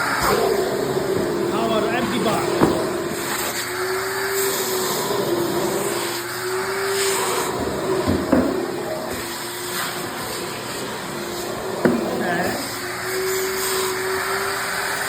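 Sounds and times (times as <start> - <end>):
shop vacuum running: 0.0 - 15.0.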